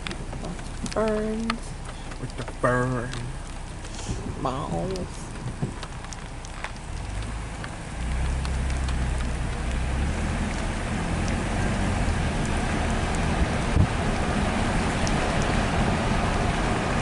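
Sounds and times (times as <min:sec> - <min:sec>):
car engine hum from cabin: 0:00.0 - 0:17.0
rushing road noise: 0:00.0 - 0:17.0.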